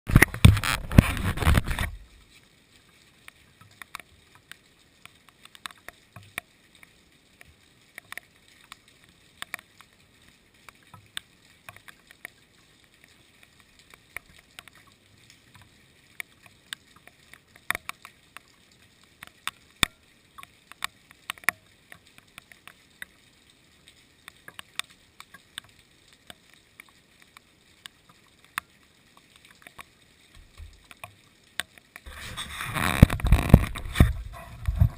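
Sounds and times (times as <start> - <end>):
rain hiss: 0.1 - 34.9
raindrops ticking: 0.1 - 34.9.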